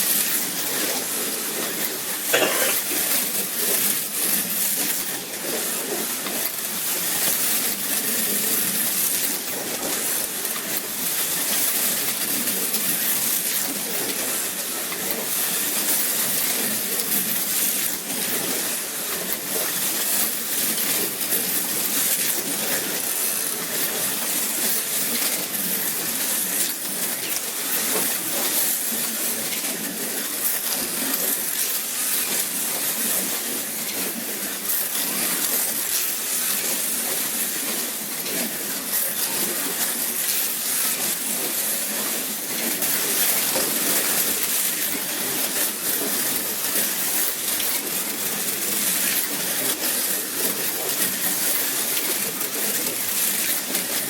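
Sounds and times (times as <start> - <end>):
small clicks and rattles: 0.0 - 54.0.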